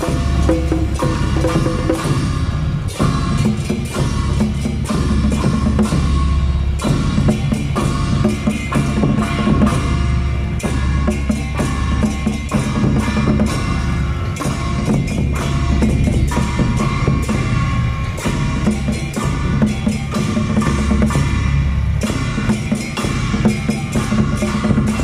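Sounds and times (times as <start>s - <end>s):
barrel drums beaten fast: 0.0s - 25.0s
hand cymbals clashing: 0.0s - 25.0s.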